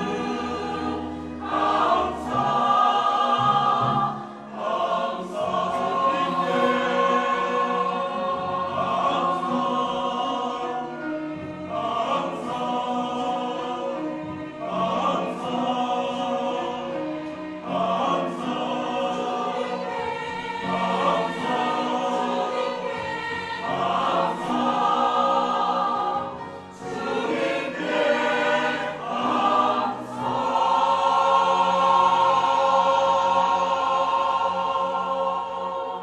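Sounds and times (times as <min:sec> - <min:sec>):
choir singing in parts: 0:00.0 - 0:36.0.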